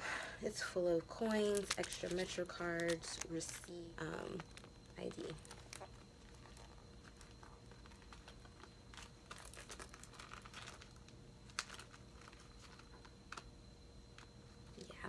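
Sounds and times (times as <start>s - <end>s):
wallet and cards being handled: 1.2s - 14.9s.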